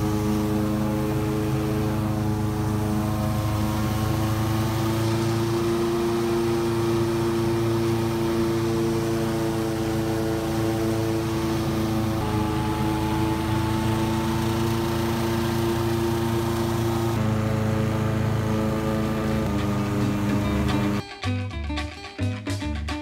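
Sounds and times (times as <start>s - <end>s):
airboat engine droning: 0.0s - 21.0s.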